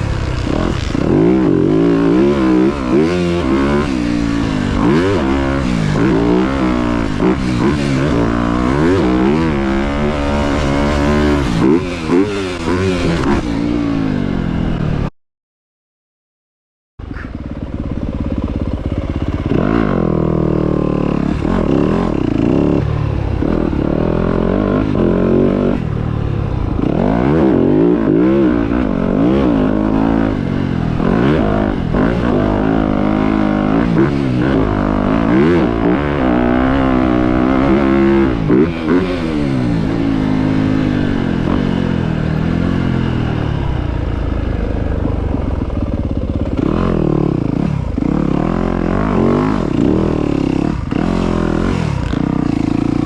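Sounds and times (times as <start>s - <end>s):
dirt bike engine revving: 0.0s - 15.1s, 17.0s - 53.0s.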